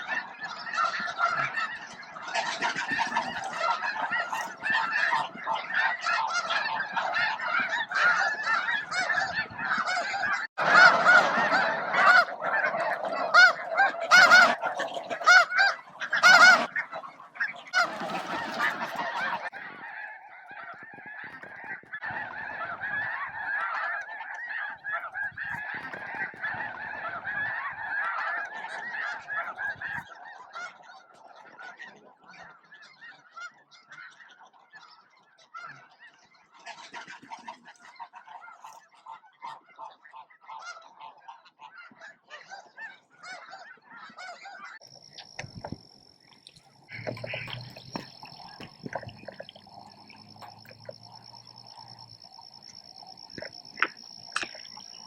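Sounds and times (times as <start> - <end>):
flock of geese honking: 0.0 - 55.0.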